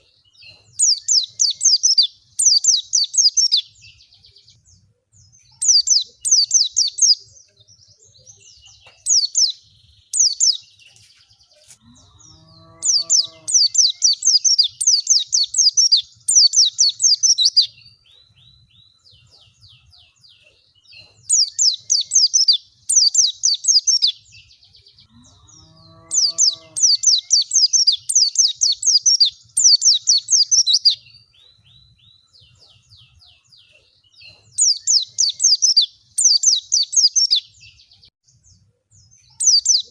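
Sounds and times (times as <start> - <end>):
bird twittering chirps: 0.0 - 39.9.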